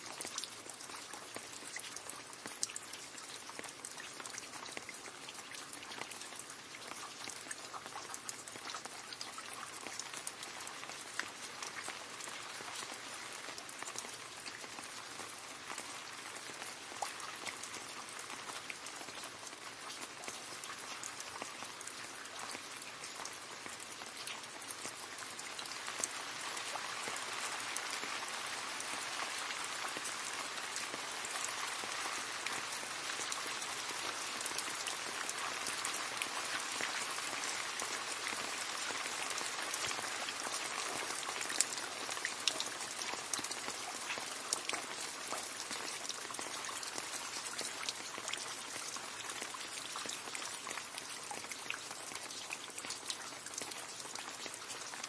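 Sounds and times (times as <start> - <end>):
rain splashing into a puddle: 0.0 - 55.0.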